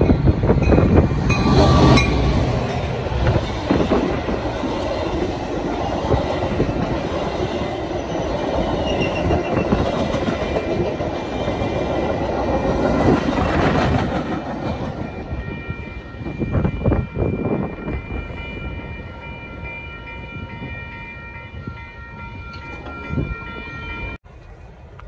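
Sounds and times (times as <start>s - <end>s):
train cars rumbling on rails: 0.0s - 24.2s.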